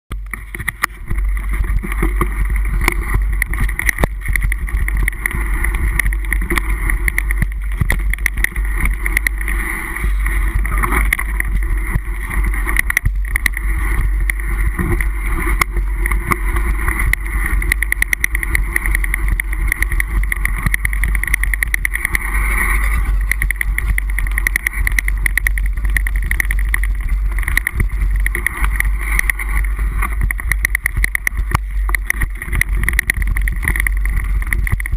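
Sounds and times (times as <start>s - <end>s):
clicks and knocks of bike: 0.1s - 34.9s
wind and tyre rumble: 0.1s - 34.9s.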